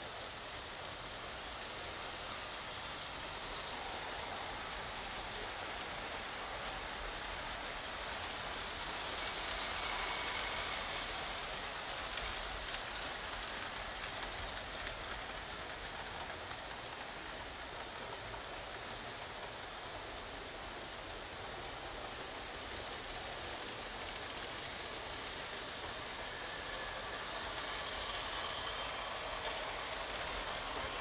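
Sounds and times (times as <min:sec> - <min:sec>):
model train wheels rattling on rails: 0:00.0 - 0:31.0.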